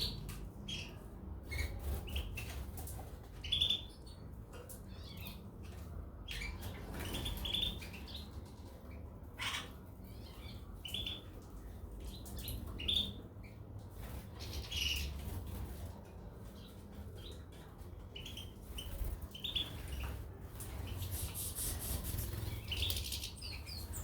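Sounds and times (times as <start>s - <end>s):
birds chirping: 0.0s - 15.6s, 16.4s - 24.0s.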